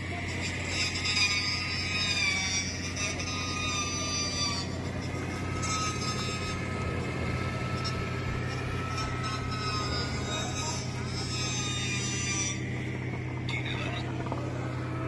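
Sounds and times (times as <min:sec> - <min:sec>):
high whine: 0:00.0 - 0:15.0
motorboat engine humming: 0:00.0 - 0:15.0.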